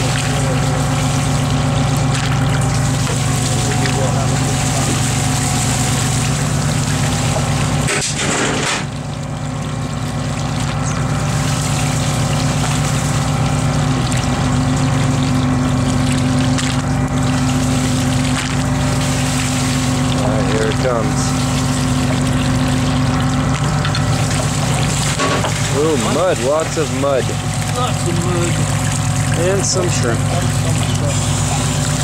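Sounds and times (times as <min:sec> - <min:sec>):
boat engine and hauling gear drone: 0:00.0 - 0:32.0.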